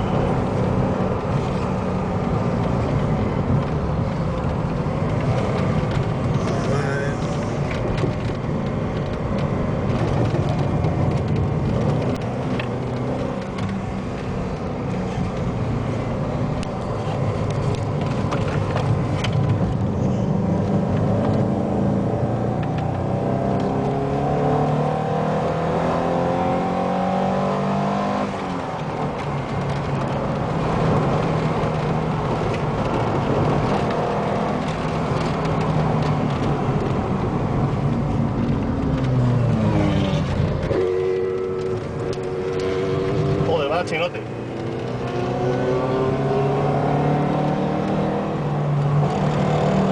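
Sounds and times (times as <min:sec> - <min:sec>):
car engine running hard: 0:00.0 - 0:49.9.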